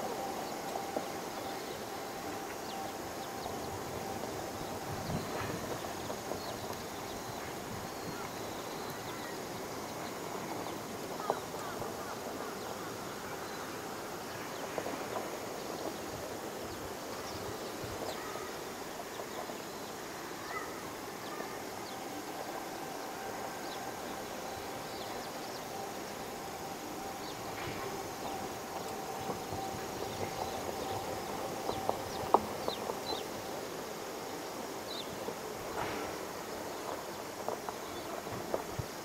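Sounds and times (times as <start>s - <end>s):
insect chirps: 0.0s - 39.0s
outdoor background noise: 0.0s - 39.0s.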